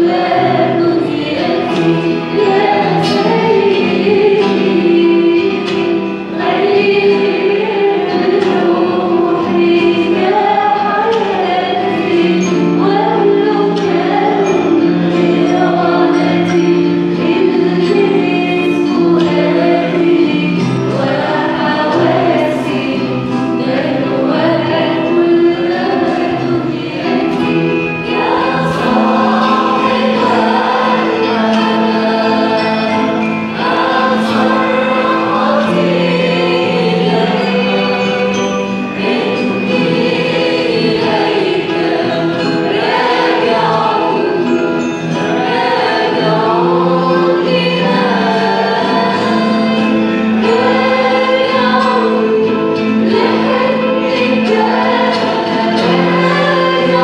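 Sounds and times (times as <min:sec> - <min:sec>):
group singing a hymn: 0:00.0 - 0:57.0
piano guitars and drums: 0:00.0 - 0:57.0.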